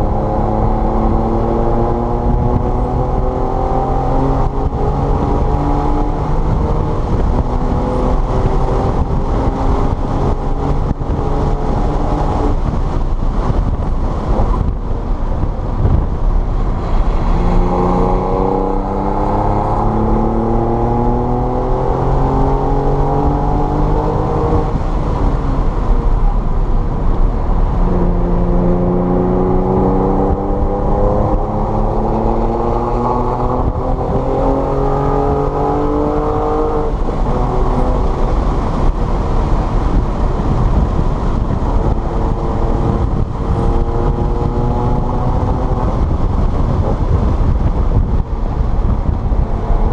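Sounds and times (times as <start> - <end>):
car engine accelerating hard: 0.0 - 49.9
road and wind rumble: 0.0 - 49.9.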